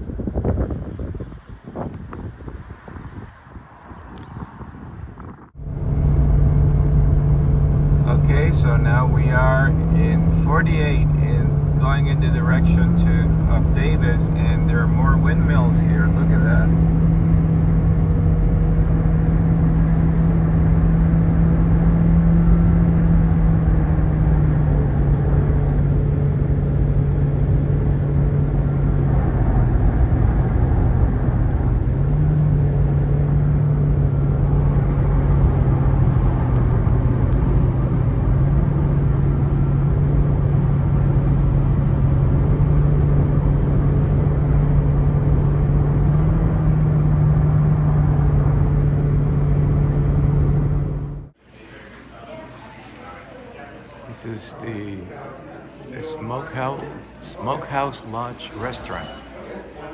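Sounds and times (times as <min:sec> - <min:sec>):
car engine and tyre drone: 0:00.0 - 0:51.4.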